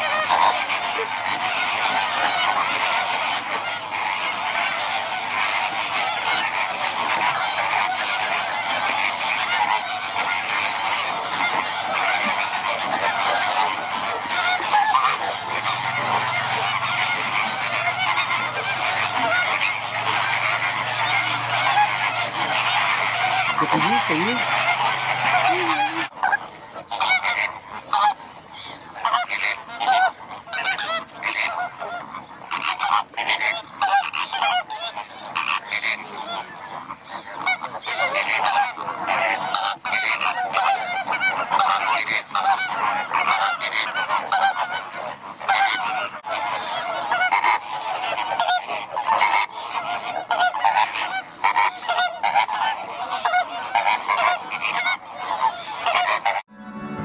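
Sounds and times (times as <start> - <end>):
flock of flamingos calling: 0.0 - 57.0.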